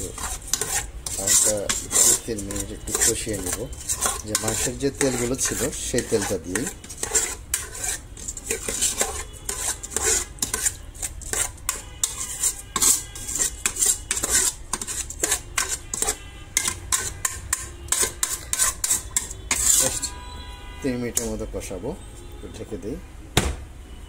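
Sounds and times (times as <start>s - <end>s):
metal spoon scraping a pot: 0.0s - 20.2s, 20.9s - 21.4s.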